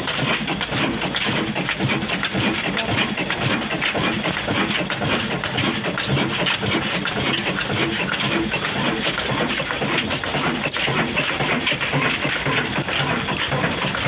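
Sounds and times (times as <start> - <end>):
diesel engine clattering: 0.0 - 14.0.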